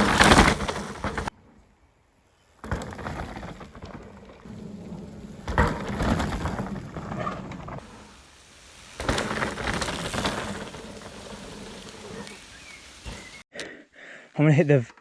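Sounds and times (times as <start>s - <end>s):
bike rattle: 0.0s - 1.3s, 2.4s - 13.4s
bike tyres on wet trail: 0.0s - 1.3s, 2.2s - 13.4s.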